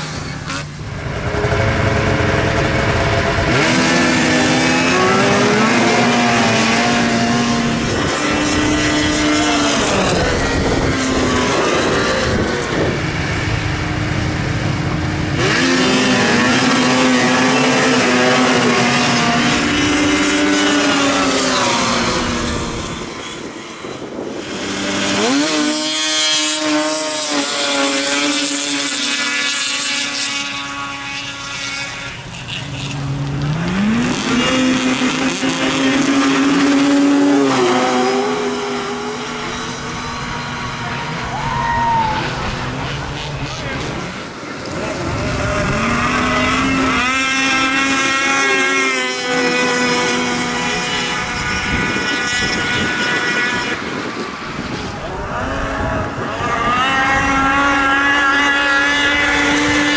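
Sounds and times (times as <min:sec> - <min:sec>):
snowmobile engines accelerating: 0:00.0 - 0:59.9.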